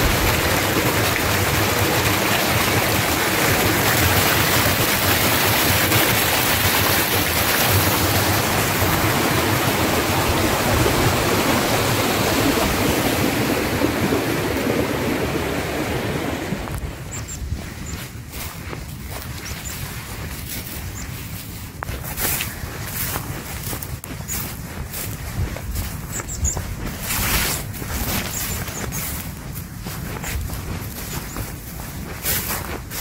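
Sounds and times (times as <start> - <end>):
stream rushing over boulders: 0.0 - 33.0.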